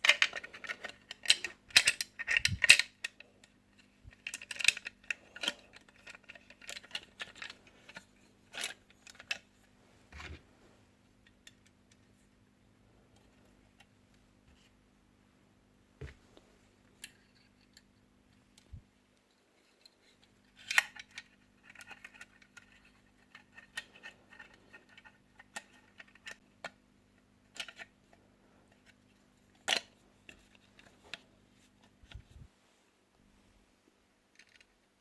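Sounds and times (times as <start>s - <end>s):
faint rattling and scraping: 0.0s - 14.8s, 16.0s - 26.5s, 27.4s - 35.0s
faint steady hum: 0.0s - 35.0s.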